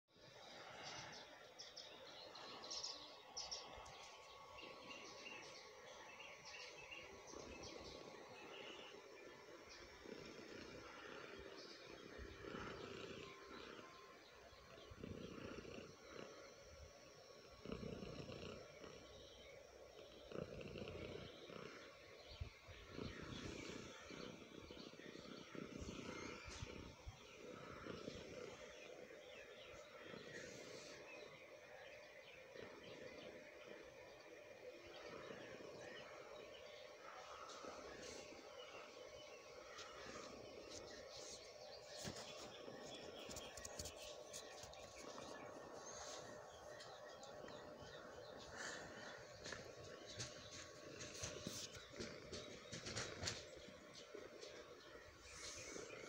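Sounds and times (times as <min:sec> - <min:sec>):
cat purring: 0:00.2 - 0:56.0.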